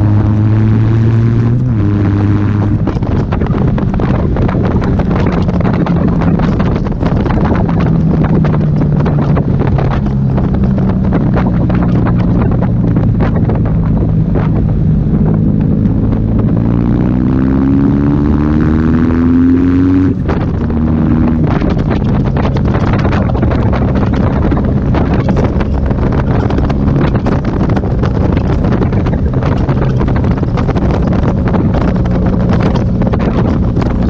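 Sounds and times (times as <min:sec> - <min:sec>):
motorcycle engine revving: 0:00.0 - 0:34.0
wind buffeting microphone: 0:00.0 - 0:34.0.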